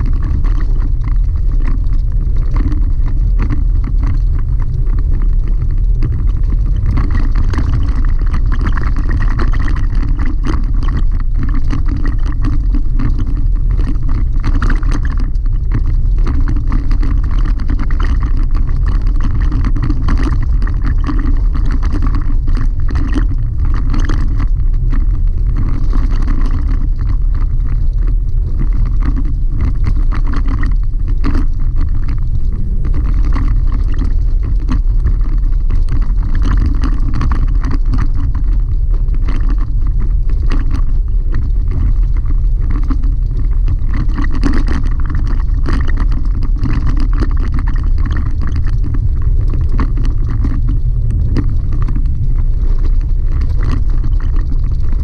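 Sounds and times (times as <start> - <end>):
engine and tyres rumbling: 0.0 - 55.0
gravel clicks and rattles: 0.0 - 55.0.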